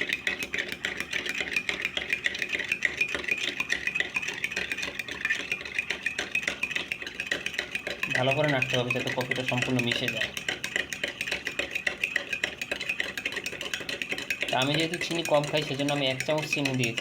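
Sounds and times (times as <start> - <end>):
spoon clinking in cup: 0.2 - 17.0.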